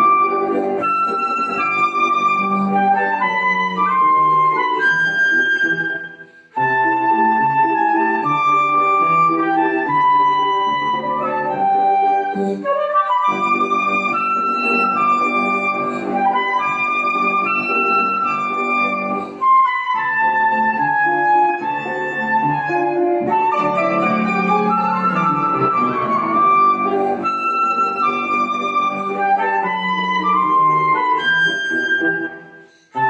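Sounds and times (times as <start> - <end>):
flute playing waltz melody: 0.0 - 33.0
piano accompaniment: 0.0 - 33.0.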